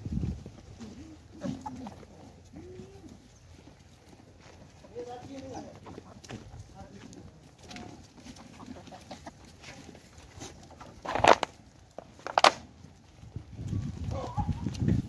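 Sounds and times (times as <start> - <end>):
goats feeding: 0.0 - 15.0.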